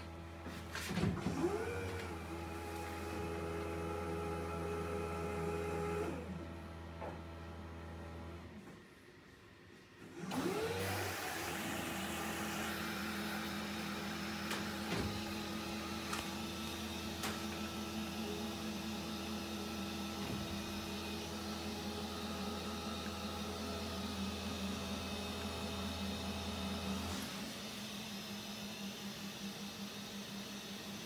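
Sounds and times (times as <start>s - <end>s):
dishwasher pump motor running: 0.0s - 8.4s, 10.2s - 31.0s.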